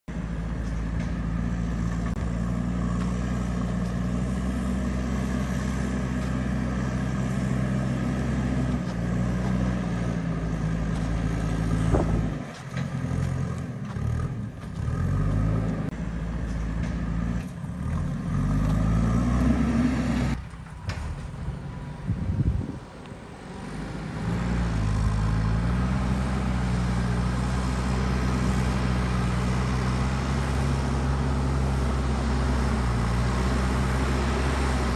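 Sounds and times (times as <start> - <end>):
diesel engine running and revving: 0.1 - 34.9.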